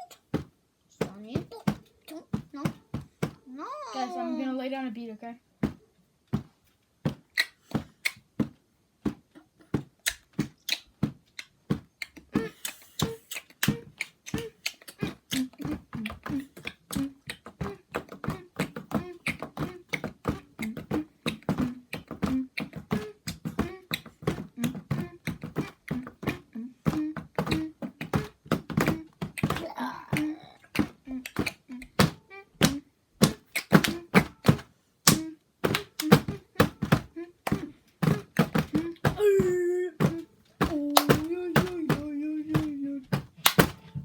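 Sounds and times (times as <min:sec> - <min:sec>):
child beatboxing: 0:00.0 - 0:04.5, 0:07.2 - 0:08.3, 0:09.1 - 0:44.0.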